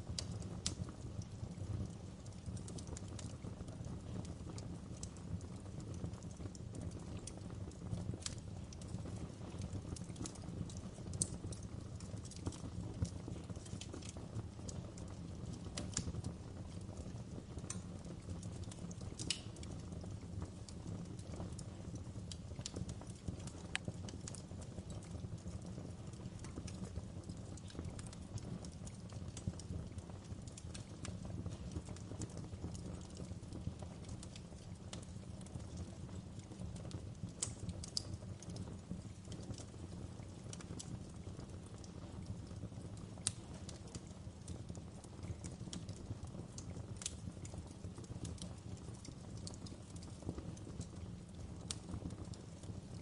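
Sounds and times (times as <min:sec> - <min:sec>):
fire popping and snapping: 0:00.0 - 0:53.0
low rumble of flames: 0:00.0 - 0:53.0.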